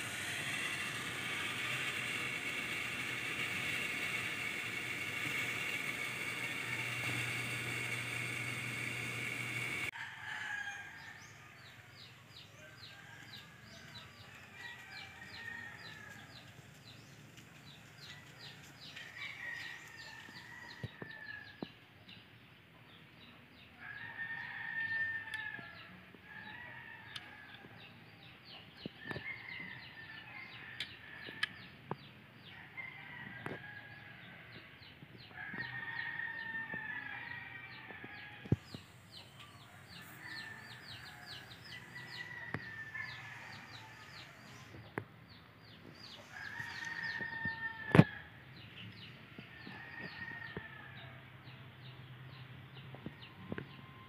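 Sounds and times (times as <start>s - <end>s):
roosters crowing: 0.0s - 21.7s, 23.8s - 28.0s, 29.0s - 31.7s, 32.5s - 44.9s, 46.0s - 48.4s, 49.0s - 51.4s.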